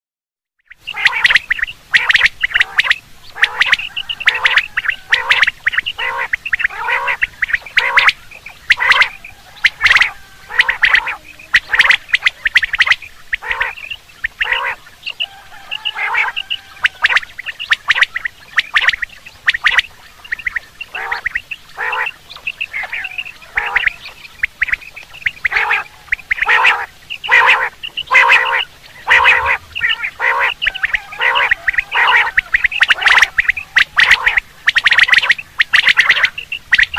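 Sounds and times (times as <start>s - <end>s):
quail calling: 0.7s - 36.9s.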